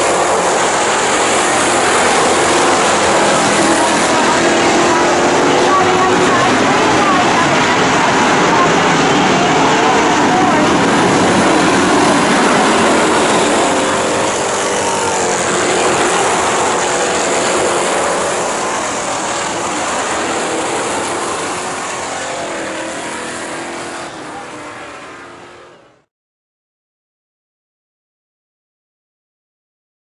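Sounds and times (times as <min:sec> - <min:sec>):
race car engines: 0:00.0 - 0:26.1.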